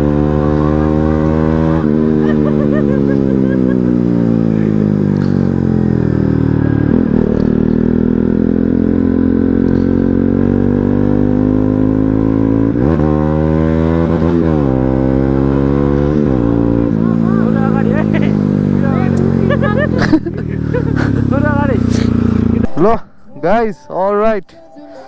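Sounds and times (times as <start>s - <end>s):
motorcycle engine running: 0.0s - 23.1s.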